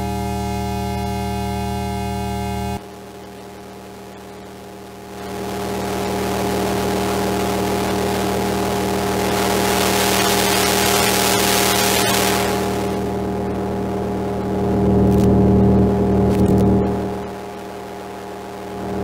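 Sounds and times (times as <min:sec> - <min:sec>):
synthesizer drone: 0:00.0 - 0:17.4
distortion hiss: 0:00.0 - 0:19.0.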